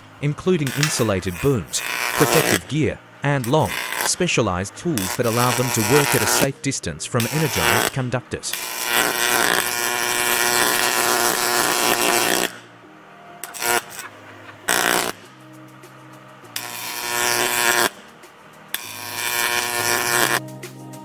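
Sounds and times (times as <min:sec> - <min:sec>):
harsh noise bursts: 0:00.0 - 0:12.6, 0:13.4 - 0:15.4, 0:16.6 - 0:18.0, 0:18.7 - 0:20.4
soft background music: 0:00.0 - 0:21.0.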